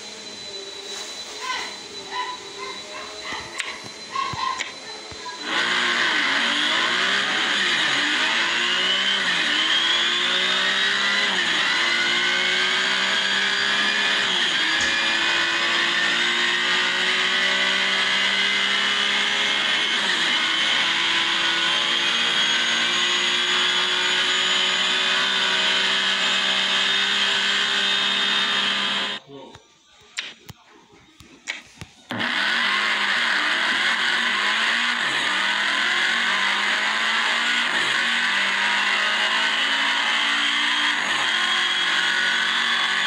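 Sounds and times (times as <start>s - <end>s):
simulated sports car engine: 0.0s - 29.2s, 31.3s - 43.0s.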